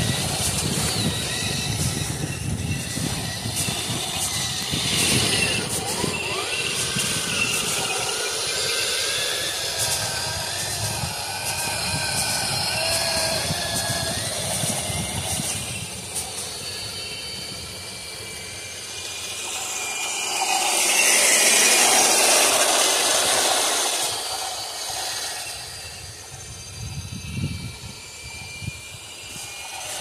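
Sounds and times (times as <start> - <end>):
motor whine: 0.0 - 30.0
toy tank tracks running: 0.0 - 30.0.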